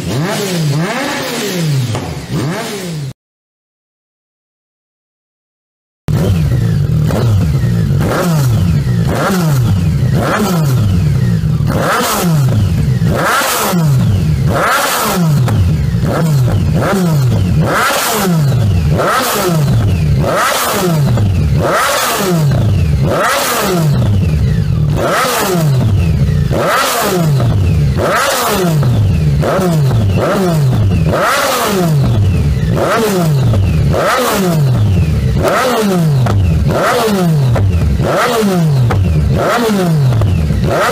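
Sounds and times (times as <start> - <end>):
motorcycle engine revving: 0.0 - 3.2, 6.1 - 40.9.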